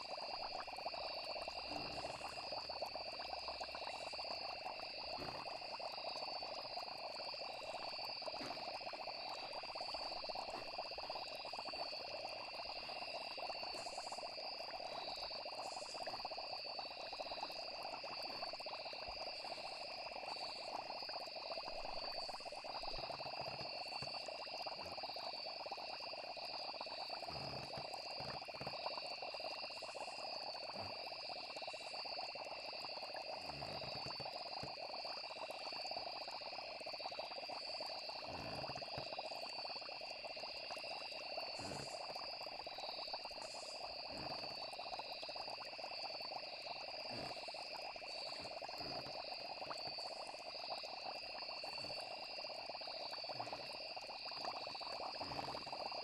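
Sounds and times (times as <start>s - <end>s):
crickets trilling: 0.0s - 56.0s
frogs croaking: 0.0s - 56.0s.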